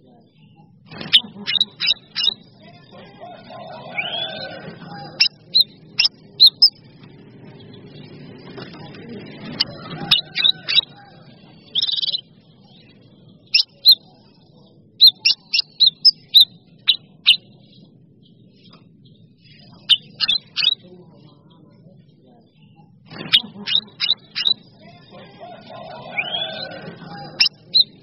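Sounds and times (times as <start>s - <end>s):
songbird chirping: 0.0s - 28.0s
buzzy bird trill: 0.4s - 14.4s, 15.0s - 18.7s, 19.4s - 21.0s, 22.6s - 28.0s.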